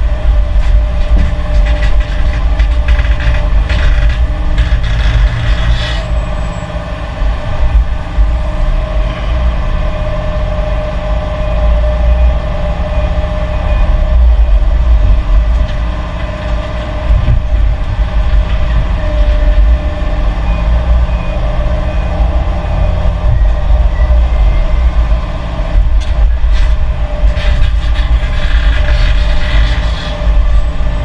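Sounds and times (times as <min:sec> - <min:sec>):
diesel machinery rumbling: 0:00.0 - 0:31.0
machinery whine: 0:00.0 - 0:31.0.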